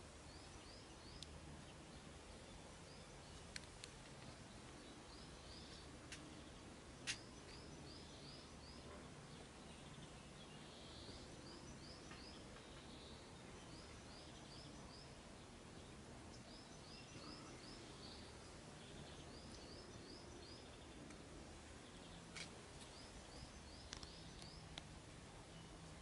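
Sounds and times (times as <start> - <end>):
bird chirping: 0.0 - 26.0
quiet hiss: 0.0 - 26.0.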